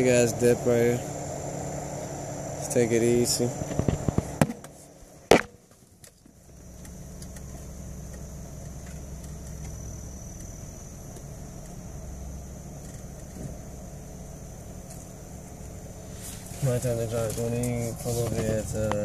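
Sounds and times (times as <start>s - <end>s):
car engine running low: 0.0s - 19.0s.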